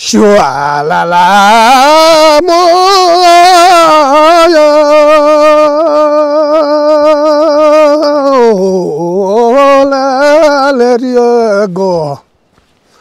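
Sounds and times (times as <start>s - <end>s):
person singing solo: 0.0s - 12.2s.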